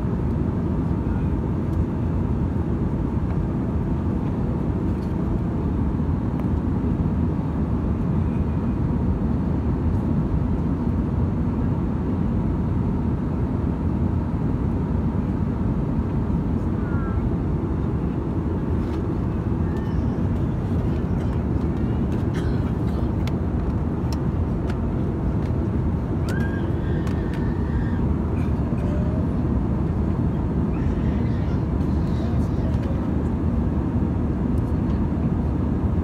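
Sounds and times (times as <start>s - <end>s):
airplane cabin engine roar: 0.0s - 36.0s.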